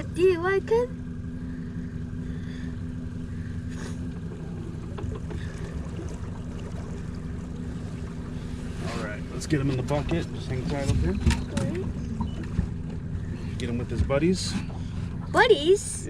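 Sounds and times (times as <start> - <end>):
boat motor droning: 0.0 - 16.0.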